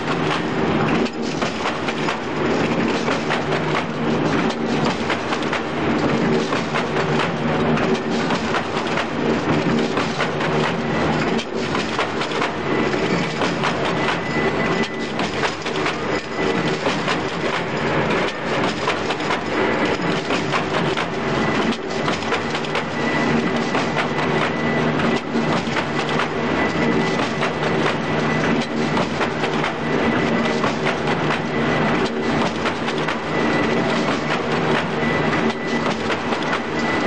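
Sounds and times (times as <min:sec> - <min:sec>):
weaving machine metallic clatter: 0:00.0 - 0:37.0.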